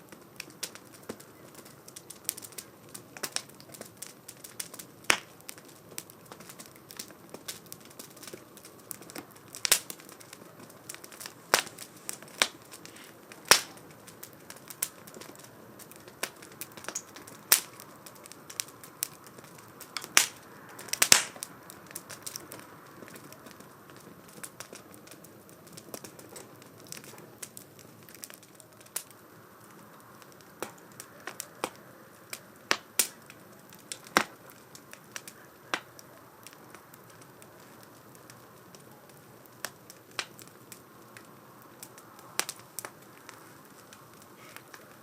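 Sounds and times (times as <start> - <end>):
low hiss: 0.0 - 45.0
wood fire crackling: 0.0 - 45.0.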